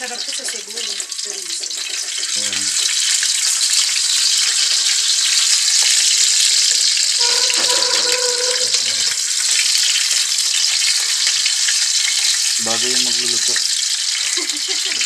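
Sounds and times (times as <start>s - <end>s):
sausages sizzling in oil: 0.0s - 15.0s.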